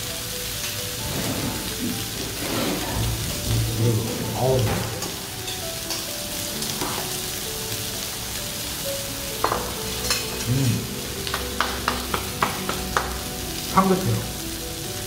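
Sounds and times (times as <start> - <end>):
meat sizzling on grill pan: 0.0 - 15.0.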